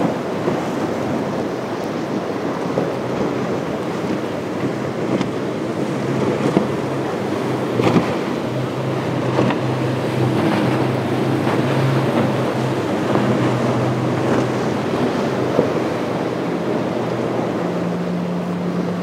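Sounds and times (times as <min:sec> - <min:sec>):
outboard motors humming: 0:00.0 - 0:19.0
surf rushing: 0:00.0 - 0:19.0
wind buffeting microphone: 0:00.0 - 0:19.0.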